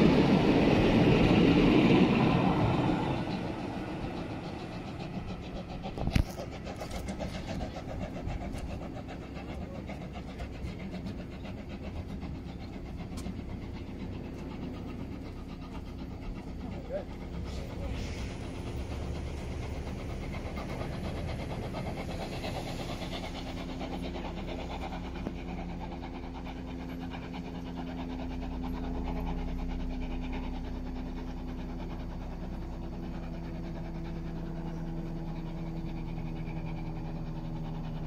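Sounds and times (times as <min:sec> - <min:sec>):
low mechanical hum of train: 0:00.0 - 0:38.0.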